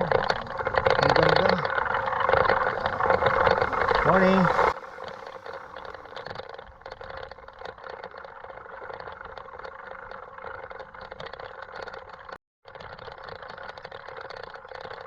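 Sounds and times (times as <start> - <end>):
bike tyres on rough road: 0.0 - 15.0
rapid small rattles and clicks: 0.0 - 15.0.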